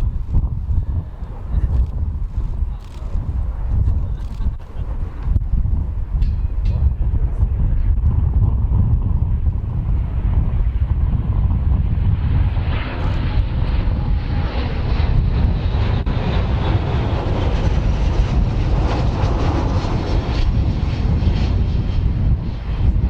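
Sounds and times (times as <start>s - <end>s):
aircraft engine rumble: 0.0s - 23.0s.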